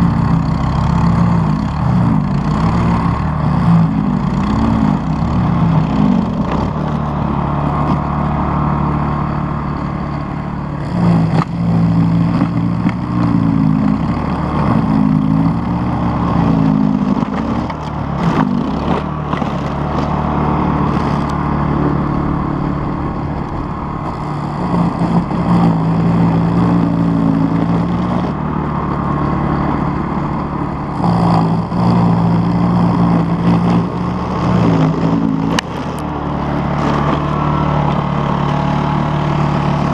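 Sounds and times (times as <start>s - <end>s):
snow blower engine running hard: 0.0s - 39.9s.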